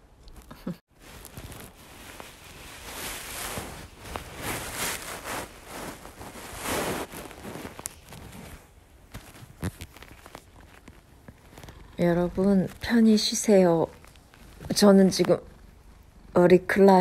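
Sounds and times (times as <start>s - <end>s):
rustling against microphone: 0.3s - 16.1s.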